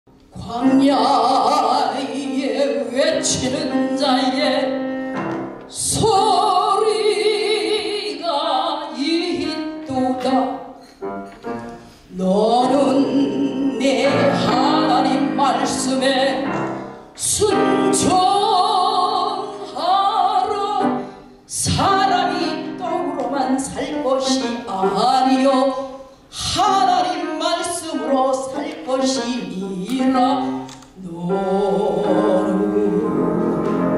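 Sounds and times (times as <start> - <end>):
piano: 0.1 - 33.9
woman singing with vibrato: 0.3 - 5.0, 5.7 - 10.8, 12.1 - 33.8.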